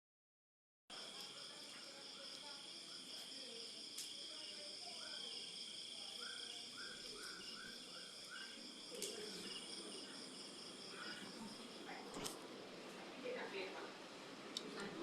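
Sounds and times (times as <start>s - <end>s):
crickets chirping: 0.9s - 15.0s.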